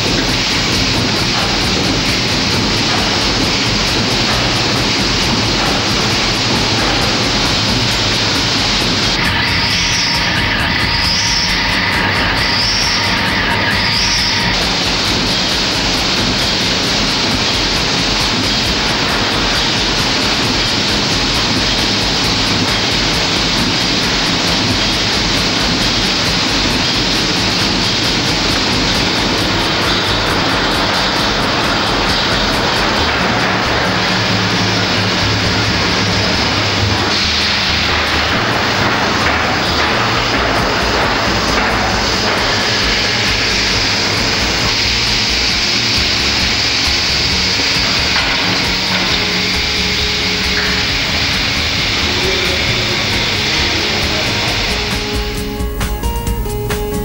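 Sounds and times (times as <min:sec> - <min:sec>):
steam engine hissing: 0:00.0 - 0:57.0.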